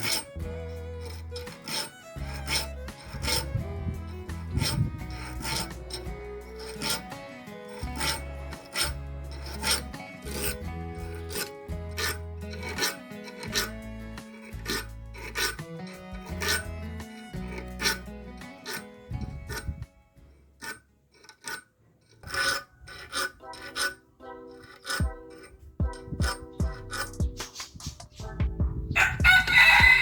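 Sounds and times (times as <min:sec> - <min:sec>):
background music: 0:00.0 - 0:20.4, 0:22.3 - 0:30.0
file rasping on steel teeth: 0:00.0 - 0:28.1.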